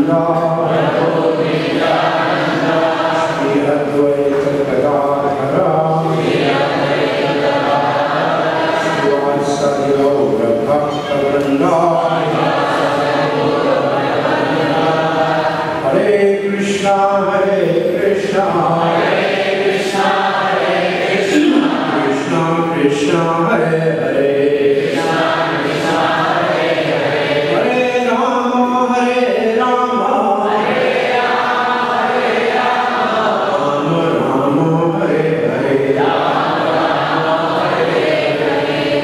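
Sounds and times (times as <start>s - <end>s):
man leading chant: 0.0s - 25.2s, 27.5s - 30.9s, 31.8s - 38.0s
group chanting in unison: 0.0s - 39.0s.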